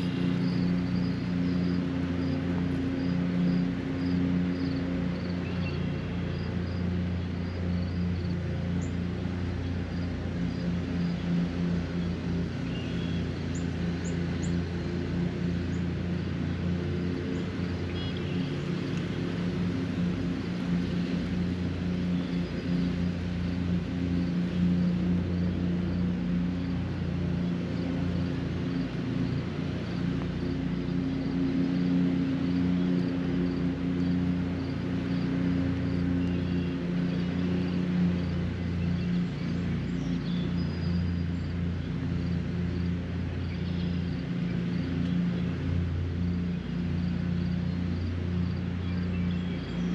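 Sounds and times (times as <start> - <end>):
low engine drone: 0.0 - 49.9.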